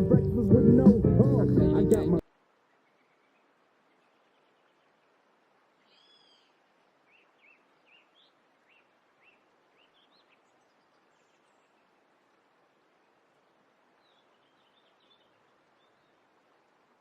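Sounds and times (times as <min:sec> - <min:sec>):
steady background hiss: 0:00.0 - 0:17.0
faint bird chirping: 0:02.6 - 0:16.7.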